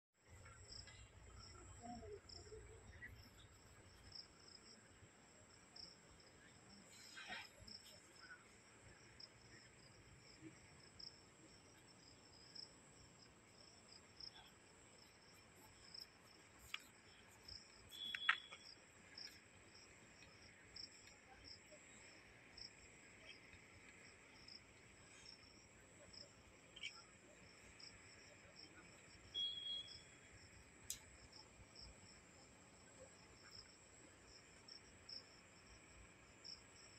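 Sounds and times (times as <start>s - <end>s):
insects chirring: 0.3s - 36.9s.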